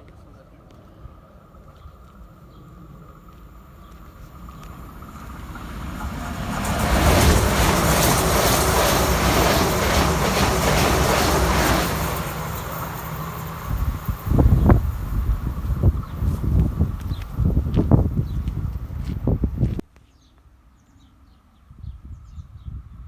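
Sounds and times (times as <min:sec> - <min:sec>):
train passing on rails: 0:00.0 - 0:19.8.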